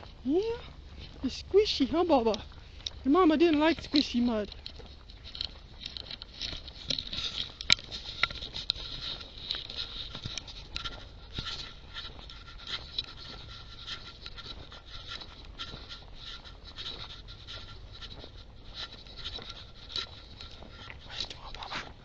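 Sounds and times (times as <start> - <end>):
footsteps on muddy trail: 0.0 - 22.0
small clicks and crackles: 0.0 - 22.0.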